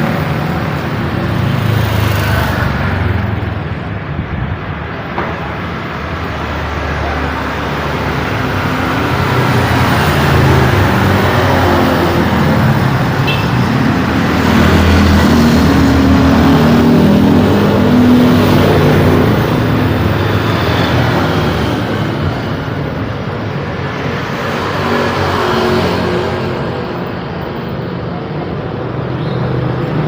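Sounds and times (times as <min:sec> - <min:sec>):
heavy vehicle engine: 0:00.0 - 0:30.0
road traffic: 0:00.0 - 0:30.0.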